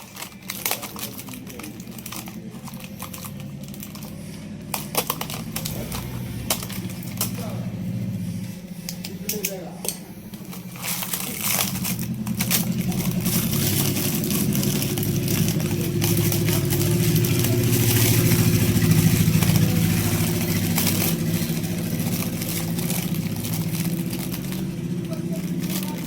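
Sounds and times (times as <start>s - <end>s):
small petrol engine running: 0.0s - 26.0s.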